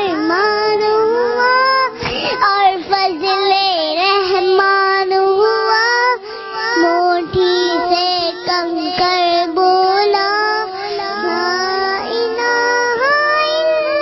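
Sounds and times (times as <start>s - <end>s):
girl singing devotional song: 0.0s - 14.0s.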